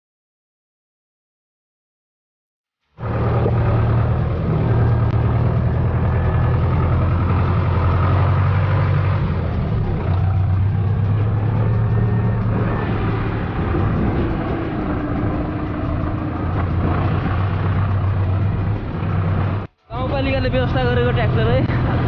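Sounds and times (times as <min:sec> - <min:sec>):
tractor engine humming: 0:03.0 - 0:22.0.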